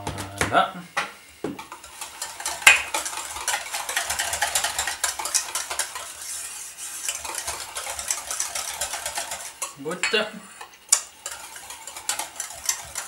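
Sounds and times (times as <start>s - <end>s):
whisk beating in metal bowl: 1.6s - 13.0s.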